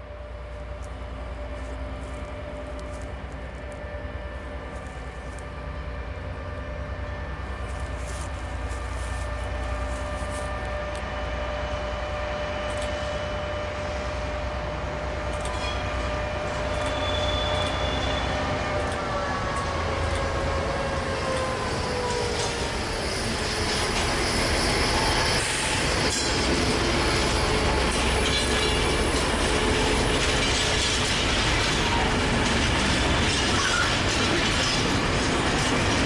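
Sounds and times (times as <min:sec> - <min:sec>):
diesel locomotive engine droning: 0:00.0 - 0:36.0.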